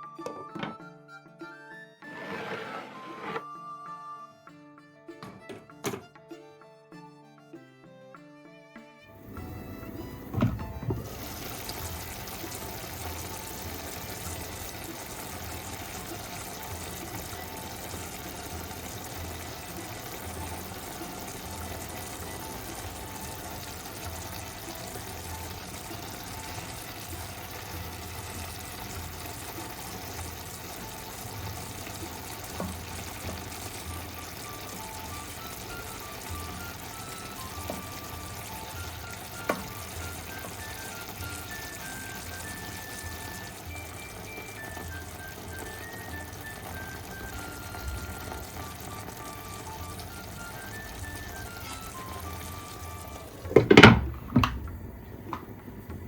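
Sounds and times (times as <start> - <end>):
stew bubbling in a pot: 9.1 - 56.0.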